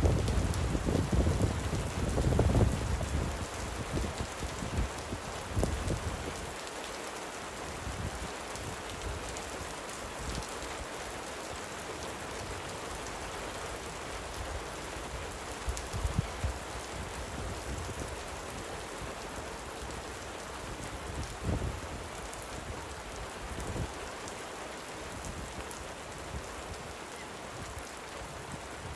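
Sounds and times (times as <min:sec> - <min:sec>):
light rain hissing: 0:00.0 - 0:28.9.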